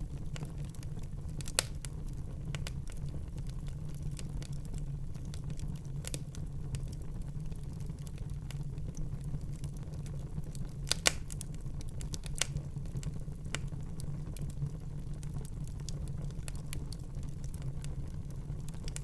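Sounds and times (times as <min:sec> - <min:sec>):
fire crackles and pops: 0:00.0 - 0:19.0
low rumble of flames: 0:00.0 - 0:19.0.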